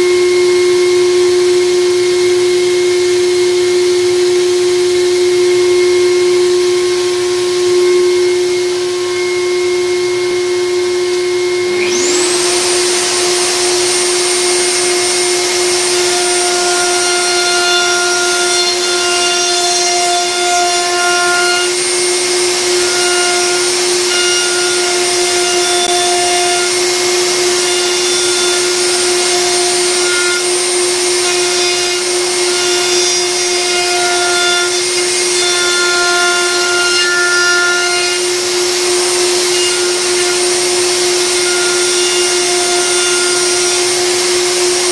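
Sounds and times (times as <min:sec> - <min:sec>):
router whining: 0:01.4 - 0:44.9
router bit cutting wood: 0:05.7 - 0:44.9.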